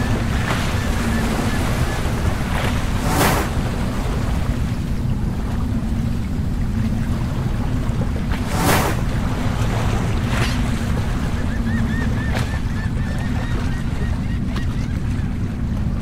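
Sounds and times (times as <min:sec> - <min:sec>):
sea waves washing: 0:00.0 - 0:16.0
wind rumbling on microphone: 0:00.0 - 0:16.0.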